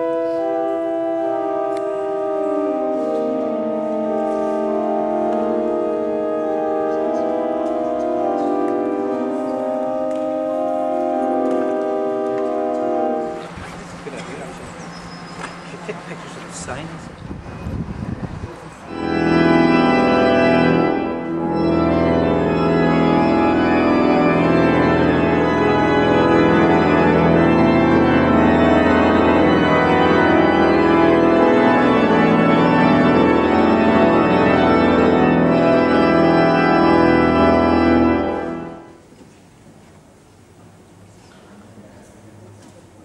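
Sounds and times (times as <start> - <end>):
pipe organ chords: 0.0 - 18.0, 18.8 - 39.1.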